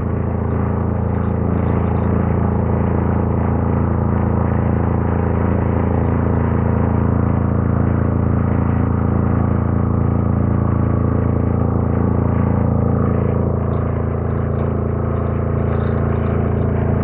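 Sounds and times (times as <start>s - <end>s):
diesel generator engine running: 0.0s - 17.0s.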